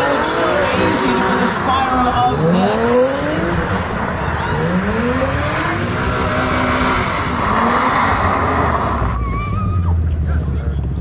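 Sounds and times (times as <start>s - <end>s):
tyres squealing and skidding: 0.0s - 10.3s
car engines revving: 0.0s - 11.0s.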